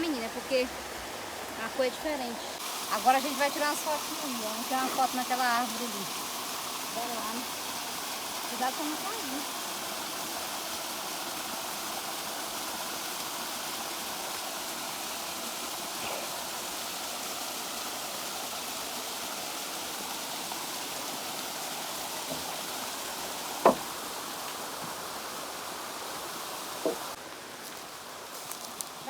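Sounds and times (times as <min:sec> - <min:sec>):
stream running water: 0:00.0 - 0:29.0.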